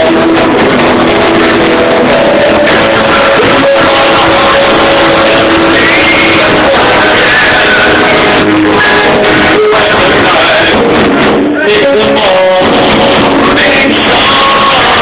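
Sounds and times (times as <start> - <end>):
loud music with guitar: 0.0 - 15.0.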